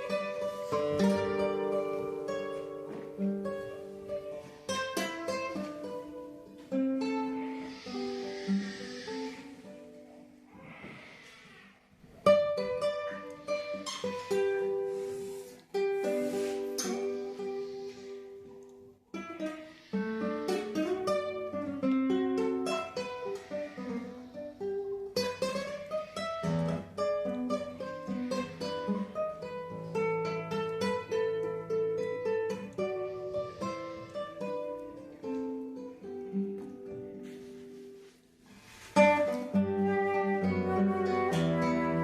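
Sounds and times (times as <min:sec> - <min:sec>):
acoustic guitar folk tune: 0:00.0 - 0:42.0.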